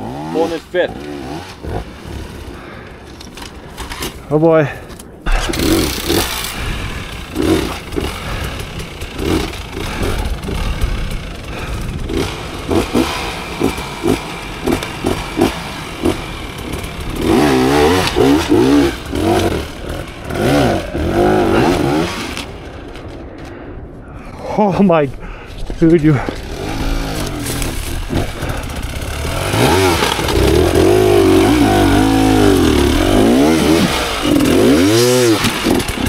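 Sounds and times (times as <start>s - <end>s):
motorcycle engine revving: 0.0s - 2.8s, 5.3s - 23.1s, 26.2s - 36.0s.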